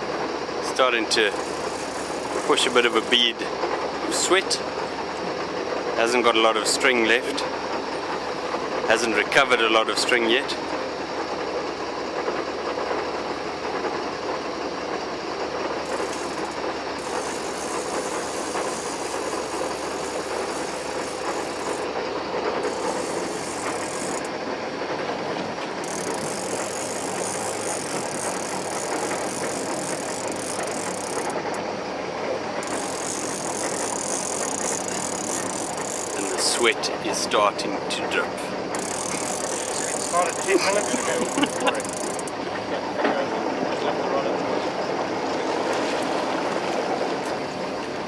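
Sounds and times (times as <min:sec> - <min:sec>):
water noise: 0:00.0 - 0:14.2, 0:15.0 - 0:42.8, 0:43.4 - 0:48.0
boat engine drone: 0:00.0 - 0:48.0.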